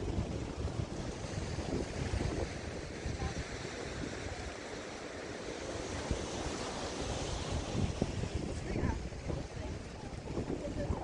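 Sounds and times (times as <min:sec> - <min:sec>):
sea waves surging: 0:00.0 - 0:11.0
wind buffeting microphone: 0:00.0 - 0:11.0.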